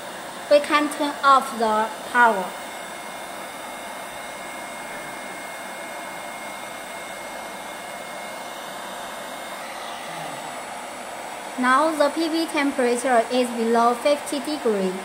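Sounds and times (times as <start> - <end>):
air blower running: 0.0 - 15.0.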